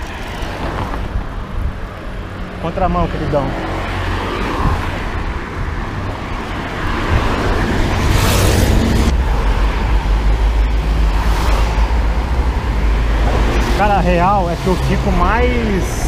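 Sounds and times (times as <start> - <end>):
wind rumble on microphone: 0.0 - 13.9
road traffic: 0.0 - 16.0.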